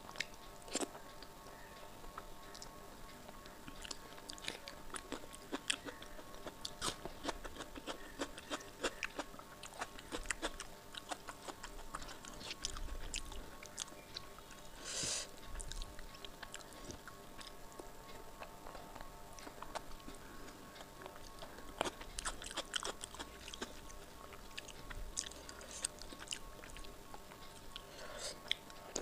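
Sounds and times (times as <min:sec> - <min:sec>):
chewing: 0:00.1 - 0:29.0.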